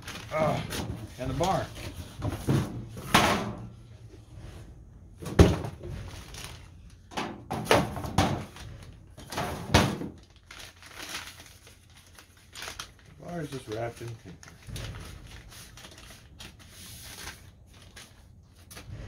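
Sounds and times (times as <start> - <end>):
cardboard packaging handled: 0.0 - 3.0, 5.4 - 18.9.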